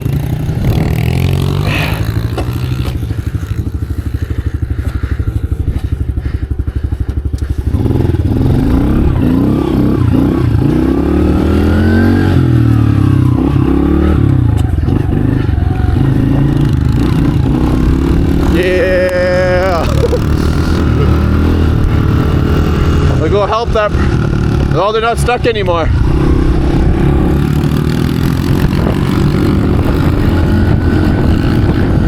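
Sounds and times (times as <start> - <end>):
pit bike engine idling and revving: 0.0 - 32.0.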